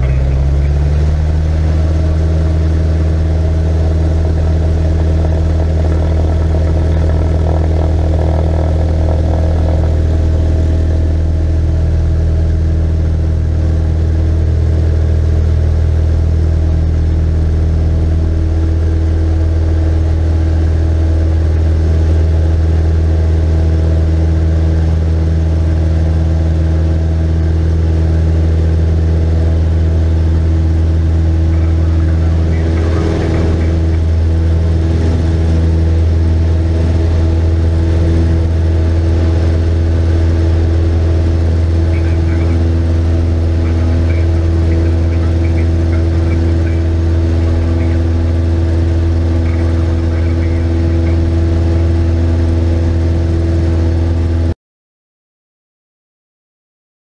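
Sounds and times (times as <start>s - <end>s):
light aircraft engine and propeller: 0.0s - 54.6s.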